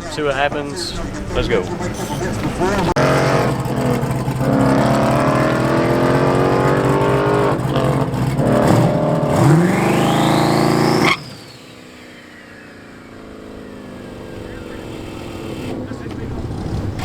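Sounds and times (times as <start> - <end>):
drag car engine revving: 0.0 - 17.0.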